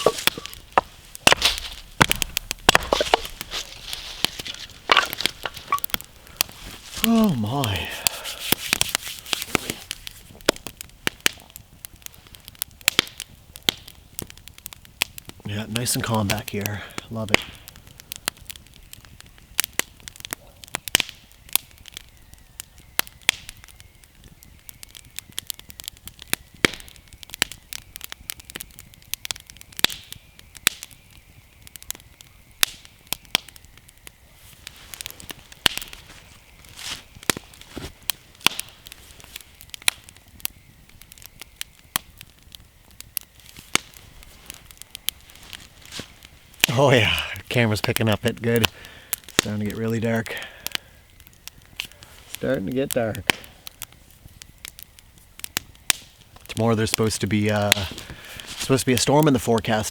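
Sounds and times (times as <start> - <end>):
loud wood snaps: 0.0 - 24.0, 24.7 - 59.3
campfire crackling and popping: 0.0 - 59.9.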